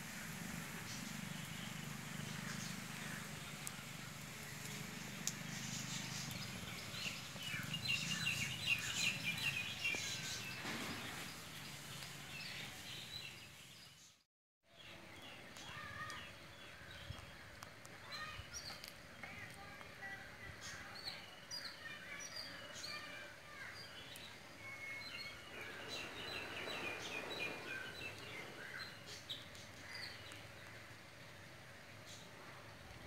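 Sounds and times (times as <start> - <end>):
outdoor background noise: 0.0 - 33.0
birds chirping: 0.7 - 33.0.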